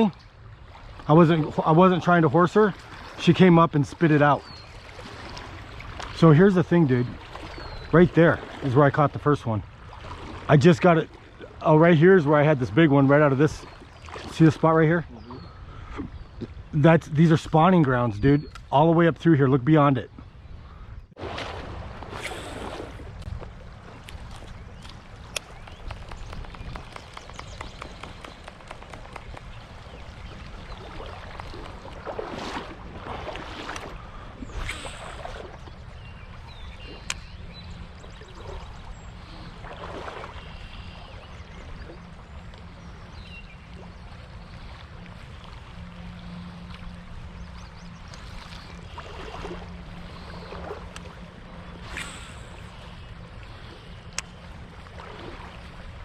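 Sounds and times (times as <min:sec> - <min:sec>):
creek water running: 0:00.0 - 0:20.1, 0:21.2 - 0:56.0.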